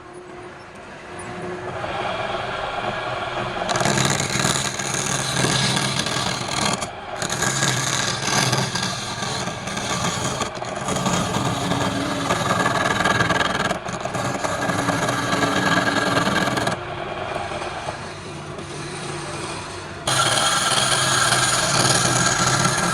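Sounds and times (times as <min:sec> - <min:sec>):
lathe motor hum: 0:00.0 - 0:22.9
lathe tool cutting wood: 0:01.6 - 0:22.9.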